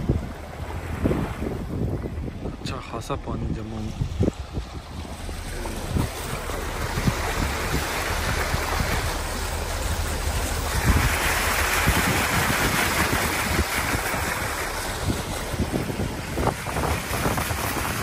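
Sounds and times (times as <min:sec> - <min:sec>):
floodwater rushing against car: 0:00.0 - 0:18.0
low rumble: 0:00.0 - 0:18.0.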